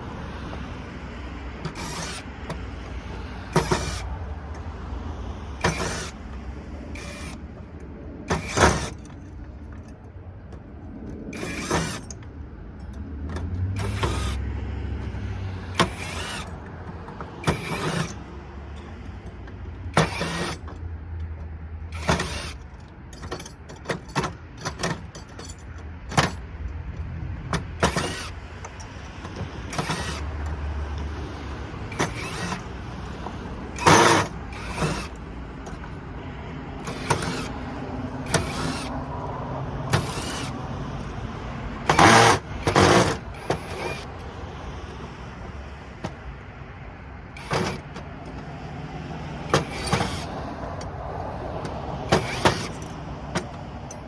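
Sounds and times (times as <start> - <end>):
hand tools clicking and scraping: 0.0 - 54.0.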